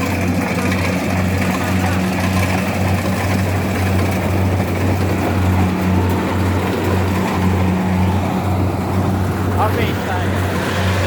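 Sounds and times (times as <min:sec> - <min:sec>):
harvester engine running: 0:00.0 - 0:11.0
mechanical rattle and whir: 0:00.0 - 0:11.0.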